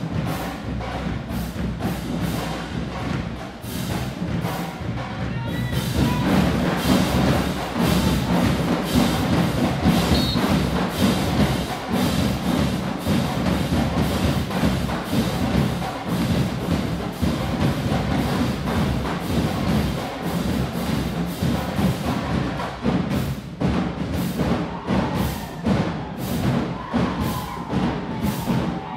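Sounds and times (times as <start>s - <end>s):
drumline beat: 0.0s - 28.9s
marching band music: 0.0s - 28.9s.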